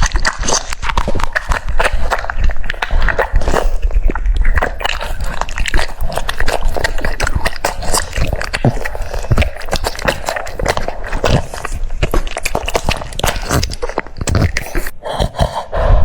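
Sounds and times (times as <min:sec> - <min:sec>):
dog chewing crunchy food: 0:00.0 - 0:15.4.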